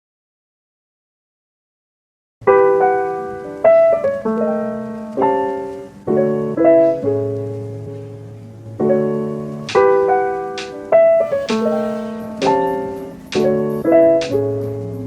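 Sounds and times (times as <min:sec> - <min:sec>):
slow piano chords: 0:02.4 - 0:15.0.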